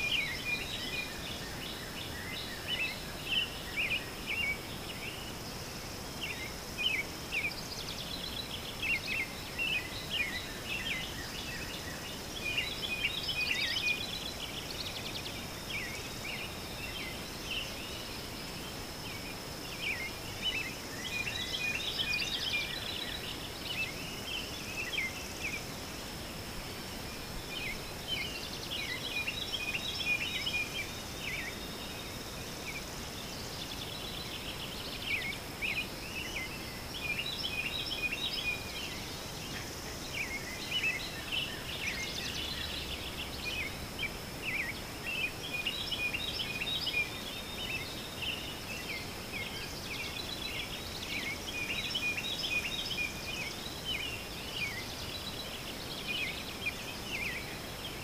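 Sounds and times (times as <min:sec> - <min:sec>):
outdoor background noise: 0:00.0 - 0:58.0
songbirds chirping: 0:00.0 - 0:58.0.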